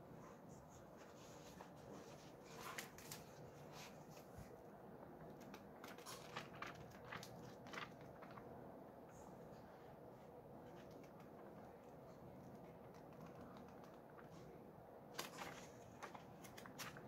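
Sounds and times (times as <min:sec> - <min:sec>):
book pages rustling: 0:00.6 - 0:04.6, 0:05.2 - 0:08.6, 0:10.6 - 0:17.0.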